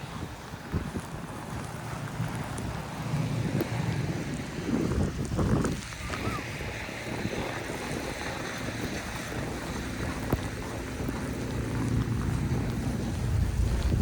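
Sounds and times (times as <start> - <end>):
storm wind buffeting microphone: 0.0 - 14.0.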